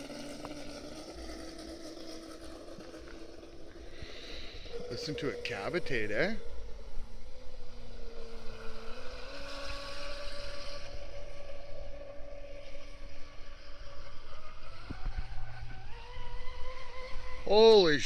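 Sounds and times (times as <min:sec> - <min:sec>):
toy boat motor whining: 0:00.0 - 0:18.0.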